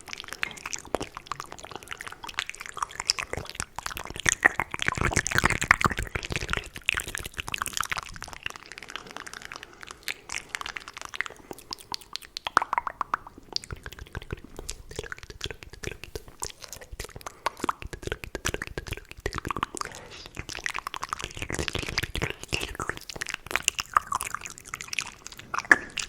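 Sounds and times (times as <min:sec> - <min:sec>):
wet mouth clicks and lip smacks: 0:00.0 - 0:26.0.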